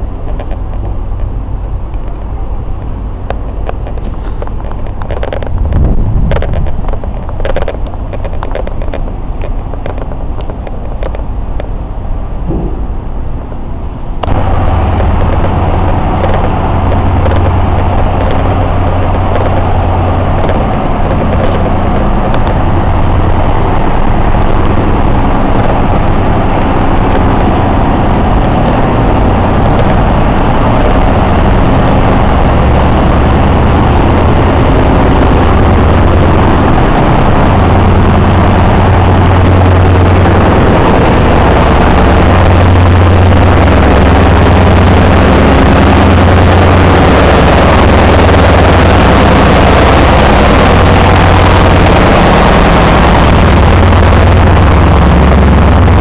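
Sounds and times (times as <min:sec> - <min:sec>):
locomotive engine droning: 0:00.0 - 0:56.0.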